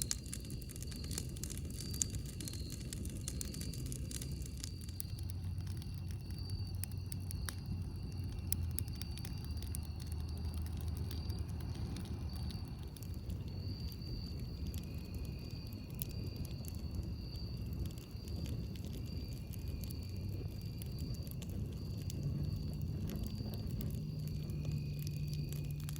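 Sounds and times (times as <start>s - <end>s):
campfire crackling and popping: 0.0s - 25.9s
low steady rumble: 0.0s - 25.9s.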